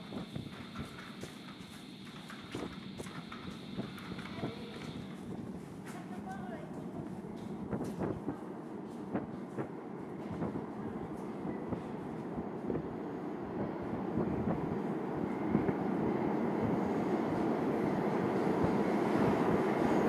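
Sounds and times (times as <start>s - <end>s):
subway train wheel and track rumble: 0.0s - 20.0s.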